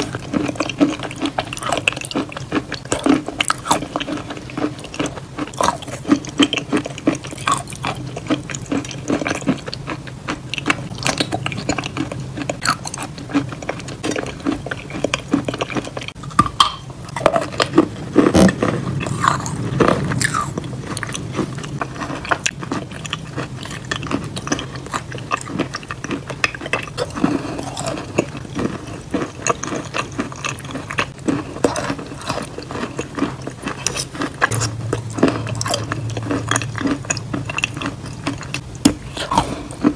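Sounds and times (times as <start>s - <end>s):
sticky chewing and lip smacking: 0.0s - 39.9s.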